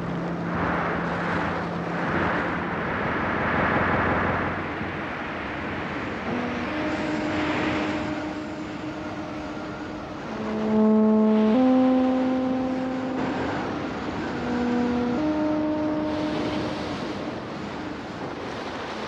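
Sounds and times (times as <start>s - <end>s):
low held music notes: 0.0s - 19.0s.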